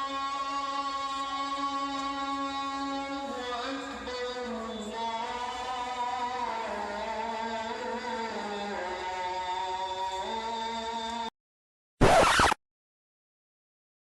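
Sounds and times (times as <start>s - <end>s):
chant-like singing: 0.0s - 11.3s.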